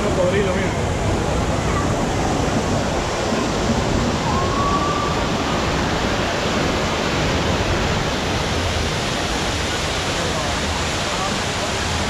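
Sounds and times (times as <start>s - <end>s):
waterfall pouring into pond: 0.0s - 12.0s.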